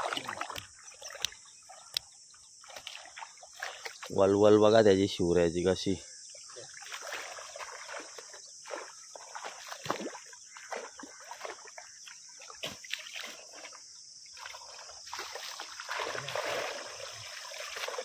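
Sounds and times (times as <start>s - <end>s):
splashing in muddy water: 0.0s - 4.6s, 6.3s - 18.0s
high insect drone: 0.0s - 18.0s.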